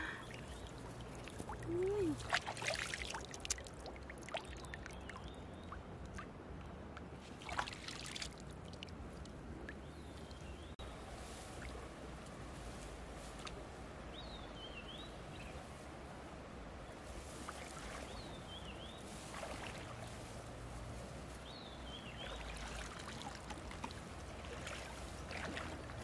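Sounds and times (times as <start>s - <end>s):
river water splashing: 0.0s - 15.6s, 16.2s - 26.0s.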